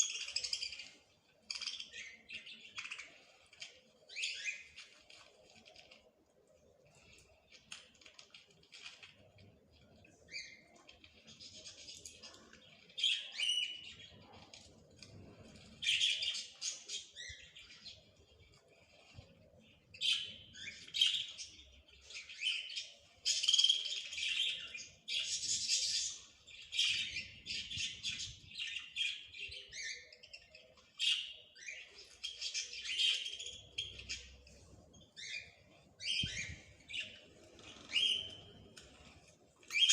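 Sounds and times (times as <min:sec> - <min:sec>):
songbirds twittering and chirping: 0:00.0 - 0:39.9.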